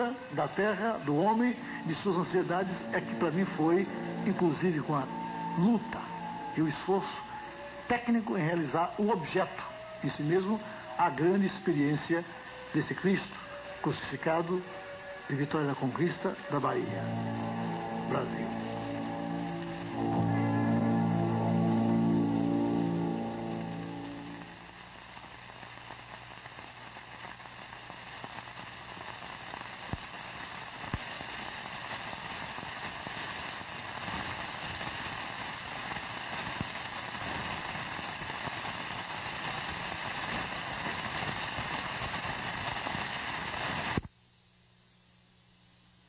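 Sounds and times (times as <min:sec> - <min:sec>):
steady rushing hiss: 0:00.0 - 0:44.1.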